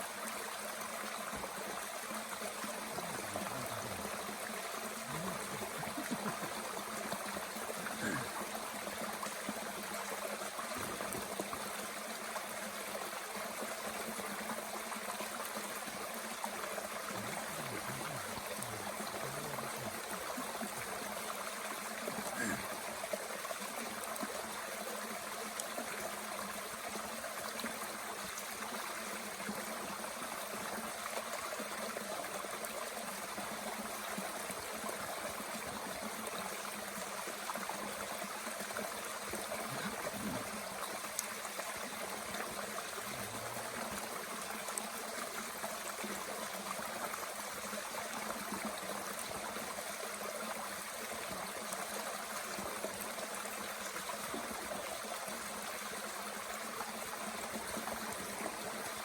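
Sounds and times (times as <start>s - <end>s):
mountain brook flowing: 0.0s - 59.0s.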